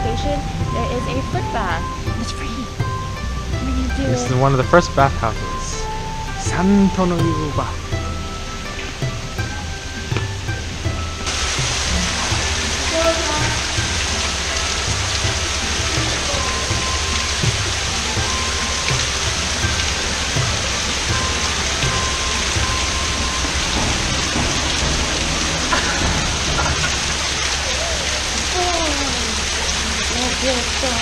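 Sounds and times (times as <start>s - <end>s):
waterfall splashing into pool: 2.0s - 31.0s.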